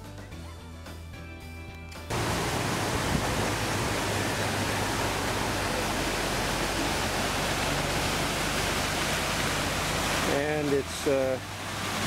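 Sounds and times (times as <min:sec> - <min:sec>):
water pouring from outlet: 0:02.1 - 0:12.0.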